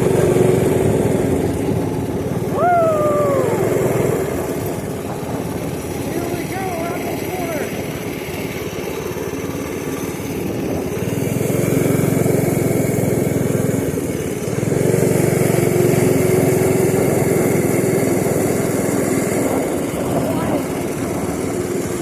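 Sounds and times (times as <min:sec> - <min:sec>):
small motorbike engine running: 0:00.0 - 0:22.0.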